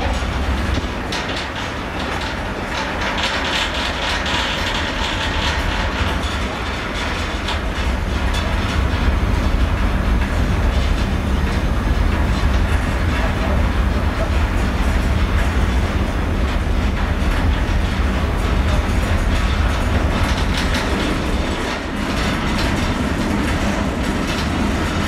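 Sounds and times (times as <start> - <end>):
ship machinery rumble: 0.0 - 25.0.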